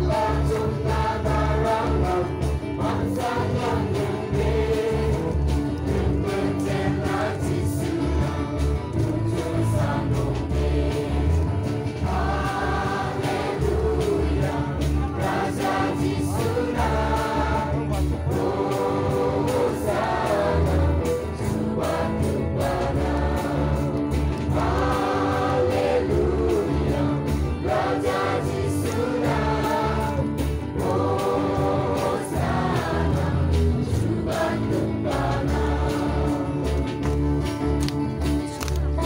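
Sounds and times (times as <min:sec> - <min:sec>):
crowd singing gospel song: 0:00.0 - 0:39.0
steady bass accompaniment: 0:00.0 - 0:39.0.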